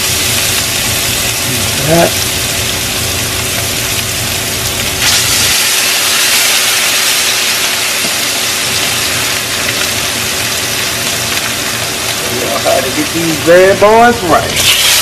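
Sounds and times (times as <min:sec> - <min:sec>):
steaks sizzling in a skillet: 0:00.0 - 0:15.0.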